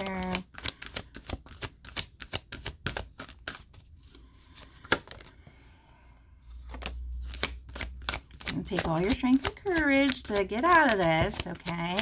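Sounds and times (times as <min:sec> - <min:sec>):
cards being shuffled: 0:00.0 - 0:05.4, 0:06.5 - 0:12.0.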